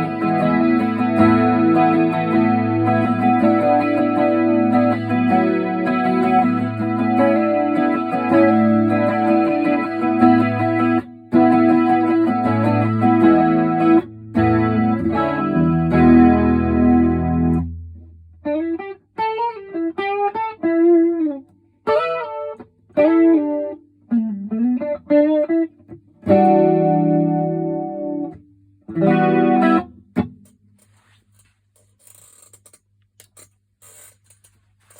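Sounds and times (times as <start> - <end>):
electric guitar with chorus: 0.0 - 30.5.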